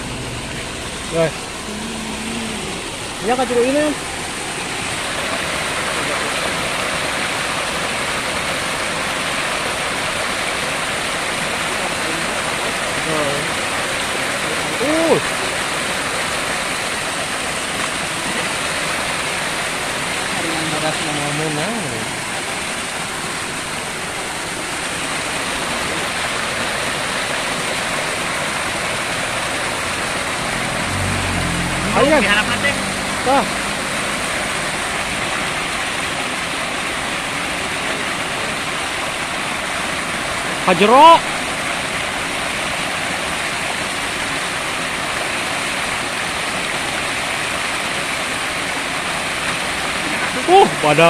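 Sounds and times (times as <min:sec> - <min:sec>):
small waterfall pouring into pool: 0:00.0 - 0:51.0.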